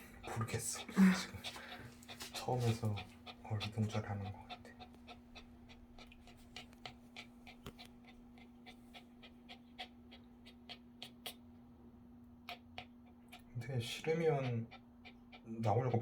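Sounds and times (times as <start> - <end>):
small dog panting: 0.0 - 11.7, 12.4 - 16.0
steady low hum: 0.0 - 16.0.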